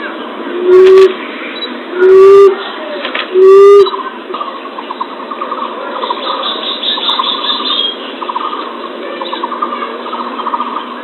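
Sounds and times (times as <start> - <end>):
dove chattering notes: 0.5 - 11.0.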